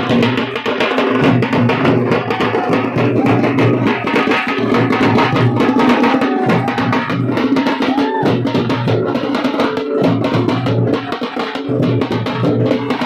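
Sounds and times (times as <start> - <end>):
fast dhol drumming: 0.0 - 13.0
wedding music: 0.0 - 13.0.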